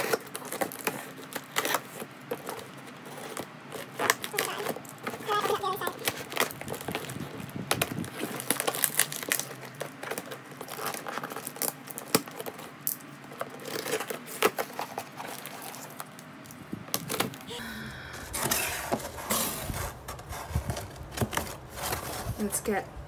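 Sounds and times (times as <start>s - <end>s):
knife cutting tape and cardboard: 0.0s - 16.1s, 18.3s - 22.8s
cardboard flaps rustling: 0.0s - 17.5s, 18.1s - 22.8s.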